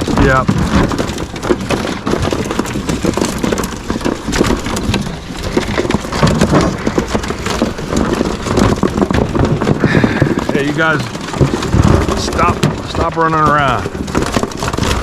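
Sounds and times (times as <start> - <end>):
pheasants scuffling: 0.0 - 15.0
rustling and clattering: 0.0 - 15.0.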